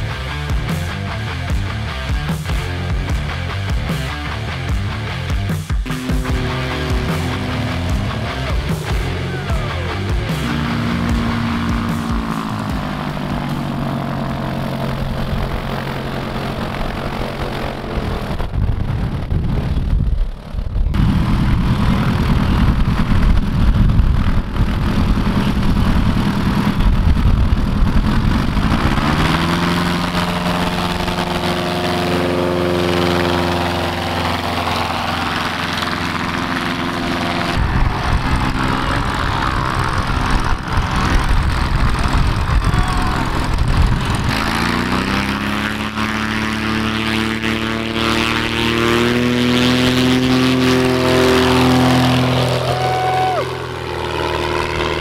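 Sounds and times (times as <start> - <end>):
propeller plane engines running: 0.0 - 55.0.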